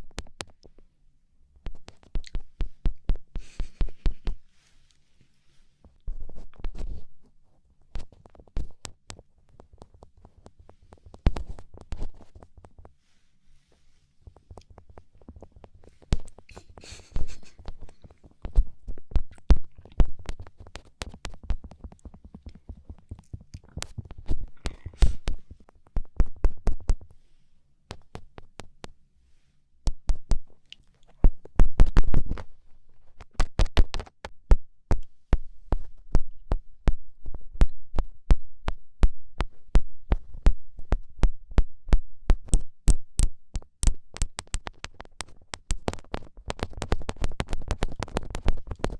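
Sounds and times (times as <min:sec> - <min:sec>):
fingertips tapping on microphone: 0:00.0 - 0:00.8, 0:01.6 - 0:04.5, 0:05.8 - 0:13.0, 0:14.2 - 0:27.2, 0:27.9 - 0:29.0, 0:29.8 - 0:48.9.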